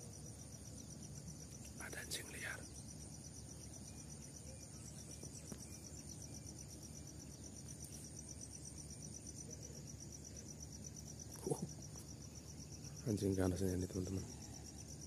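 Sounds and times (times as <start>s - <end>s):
faint low background noise: 0.0s - 15.0s
insects chirring: 0.0s - 15.0s.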